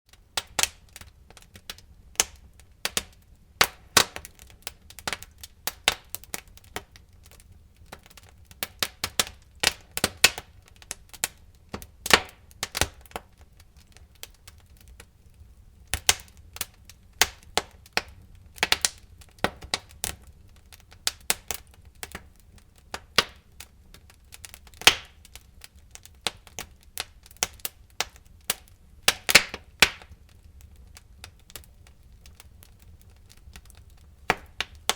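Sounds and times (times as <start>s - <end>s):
low rumble of flames: 0.1s - 34.9s
wood fire crackling and popping: 0.1s - 34.9s.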